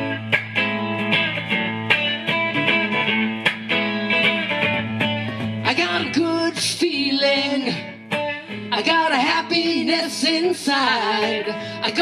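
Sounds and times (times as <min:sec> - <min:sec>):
electric guitar: 0:00.0 - 0:12.0.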